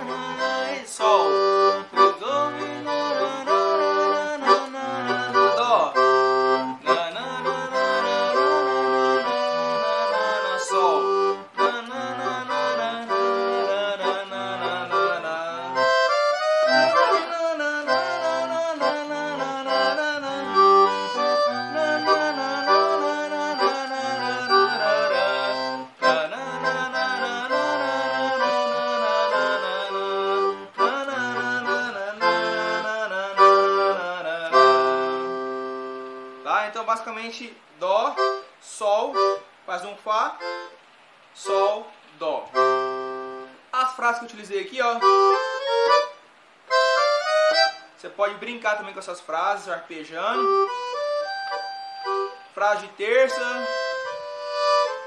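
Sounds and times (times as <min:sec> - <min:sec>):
accordion playing: 0:00.0 - 0:37.2, 0:38.1 - 0:44.3, 0:44.9 - 0:55.0.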